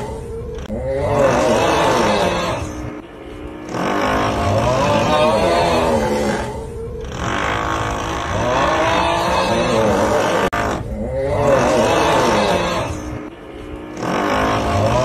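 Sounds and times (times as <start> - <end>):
wavering groan: 0.0 - 15.0.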